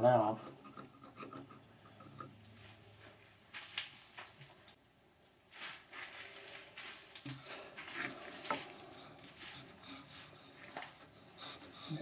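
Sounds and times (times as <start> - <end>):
hand rubbing wooden bowl: 0.0 - 3.4, 5.6 - 12.0.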